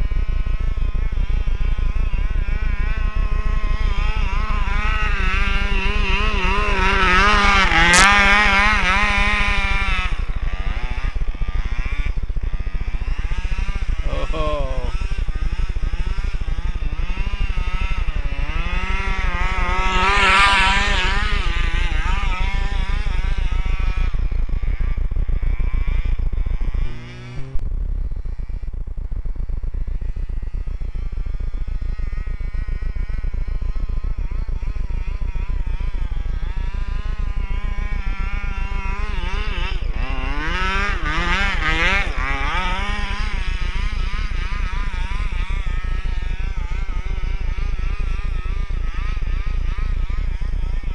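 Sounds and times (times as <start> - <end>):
two-stroke engine revving: 0.0 - 50.9.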